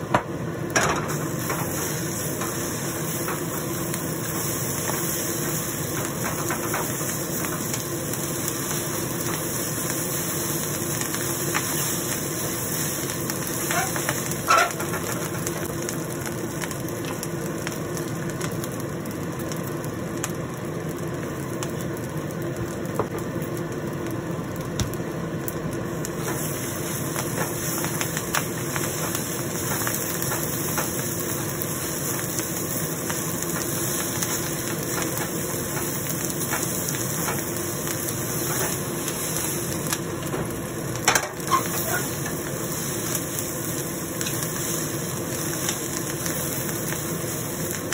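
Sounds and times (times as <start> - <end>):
light sizzle: 0.0 - 47.9
steady hum: 0.0 - 47.9.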